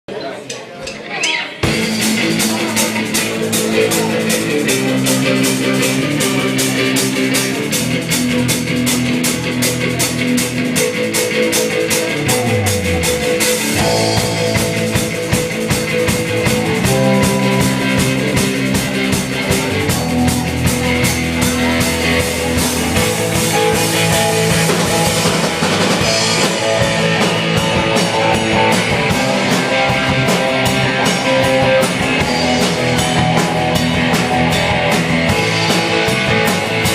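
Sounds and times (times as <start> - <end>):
rock band playing: 0.6 - 36.9
drum kit beat: 0.8 - 36.9
guitar chords: 1.6 - 36.9.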